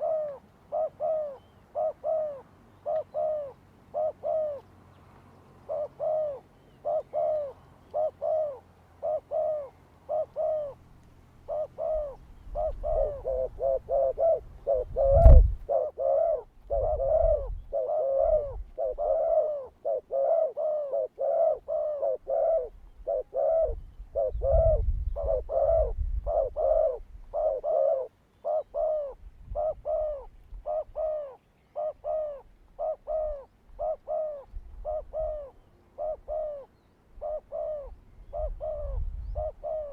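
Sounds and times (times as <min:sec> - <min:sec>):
dove cooing: 0:00.0 - 0:04.8, 0:05.5 - 0:39.9.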